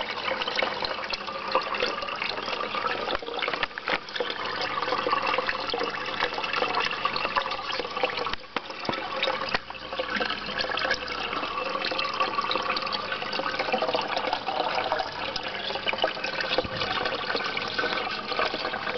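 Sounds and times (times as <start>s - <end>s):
water gushing into fish tank: 0.0s - 18.9s.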